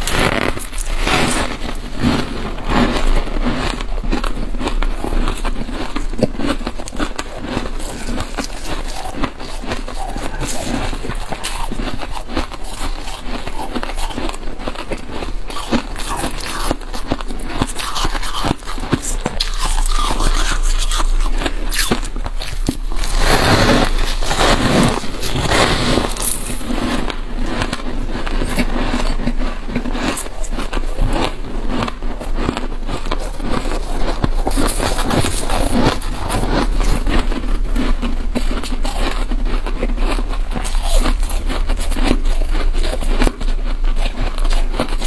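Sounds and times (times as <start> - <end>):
frost crunching: 0.0 - 45.0.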